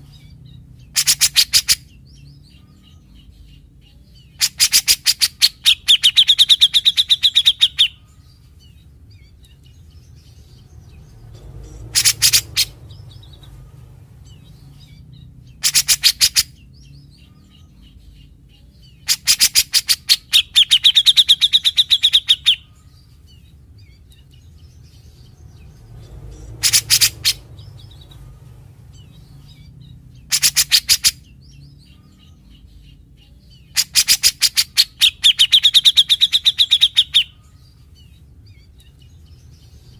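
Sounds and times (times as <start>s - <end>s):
bird rapid chattering song: 0.0s - 39.9s.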